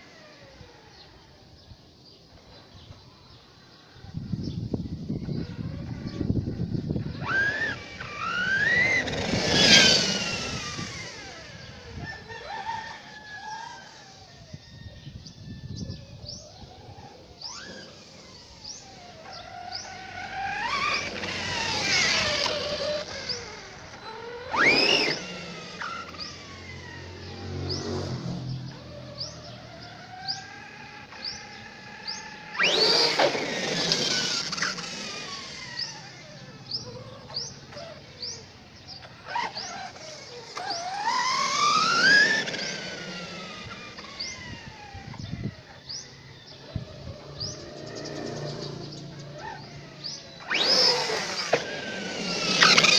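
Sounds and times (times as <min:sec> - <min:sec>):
electric motor whining: 0:00.0 - 0:52.9.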